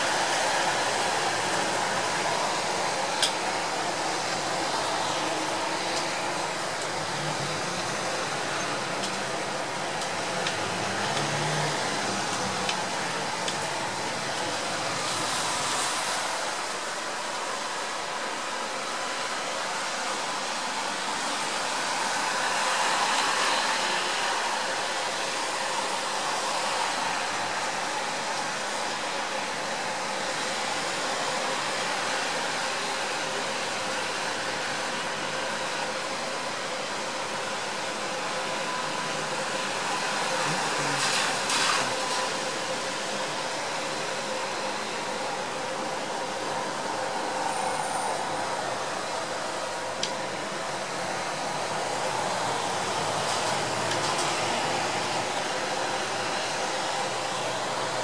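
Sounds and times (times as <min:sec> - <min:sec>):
steady rain on pavement: 0:00.0 - 0:58.0.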